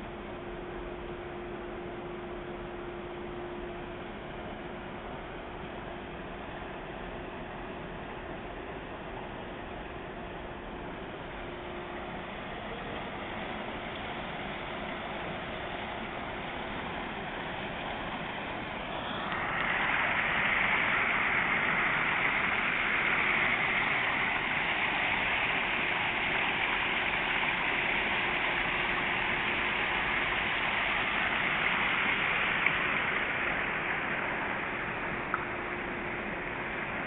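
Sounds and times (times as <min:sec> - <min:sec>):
fountain water rushing: 0:00.0 - 0:37.0.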